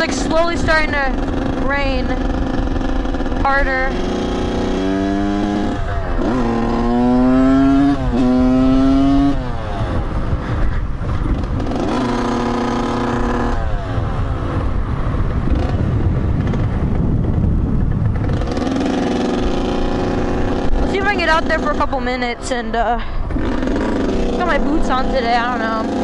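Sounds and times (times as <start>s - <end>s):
dirt bike engine accelerating: 0.0s - 26.0s
wind rushing over microphone: 0.0s - 26.0s.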